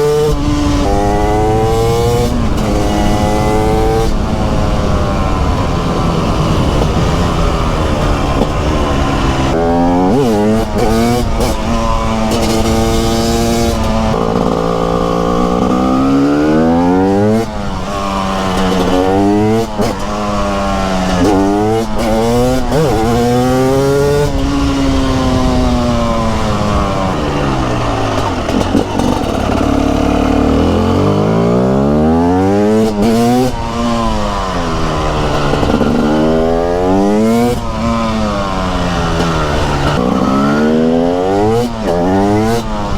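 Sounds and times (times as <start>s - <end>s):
two-stroke motorcycle engine revving: 0.0s - 42.9s.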